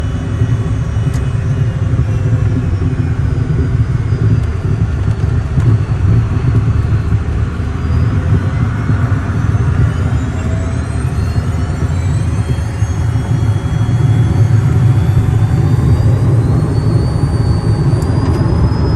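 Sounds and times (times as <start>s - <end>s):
faint high whine: 0.0s - 18.9s
jet engine rumble: 0.0s - 18.9s.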